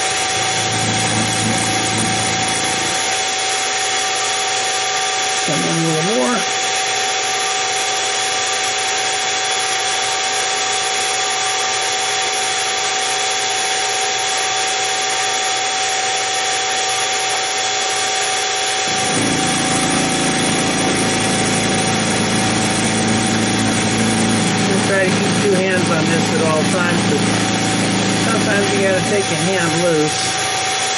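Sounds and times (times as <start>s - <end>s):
end mill cutting metal: 0.0s - 30.9s
mill motor whine: 0.0s - 30.9s.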